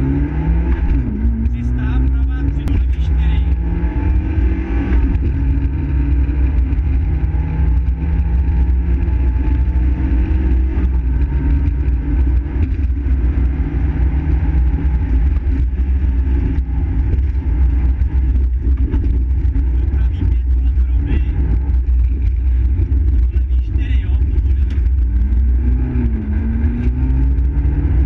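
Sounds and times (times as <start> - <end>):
car engine running hard: 0.0 - 28.0
heavy low rumble: 0.0 - 28.0.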